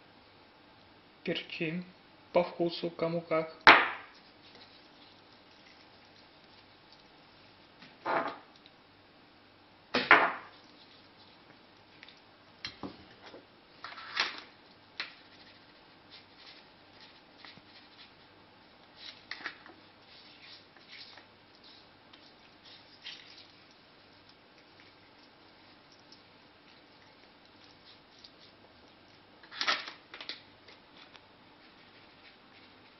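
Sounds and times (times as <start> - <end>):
faint steady hum: 0.0 - 32.9
rustles and knocks of handling meat: 3.7 - 8.6, 10.2 - 32.9.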